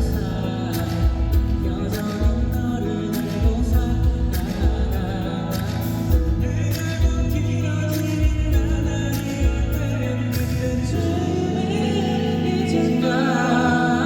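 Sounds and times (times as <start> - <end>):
live pop band playing: 0.0 - 14.0
person singing: 0.0 - 14.0.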